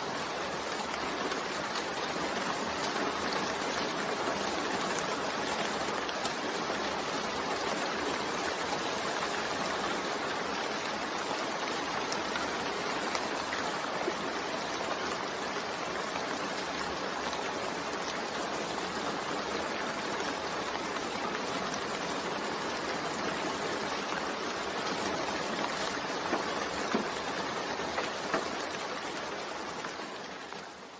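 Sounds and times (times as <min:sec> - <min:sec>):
steady rain hiss: 0:00.0 - 0:30.9.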